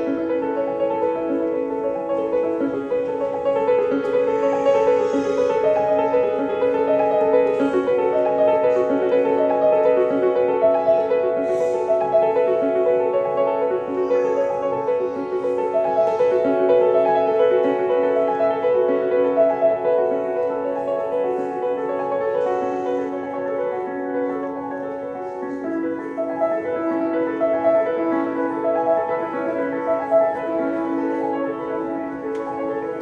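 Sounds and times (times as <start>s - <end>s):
solo piano: 0.0s - 33.0s.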